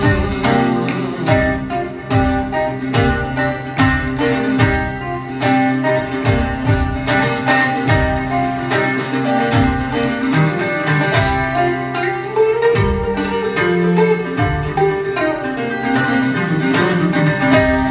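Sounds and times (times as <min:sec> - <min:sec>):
acoustic guitar strumming: 0:00.0 - 0:17.9.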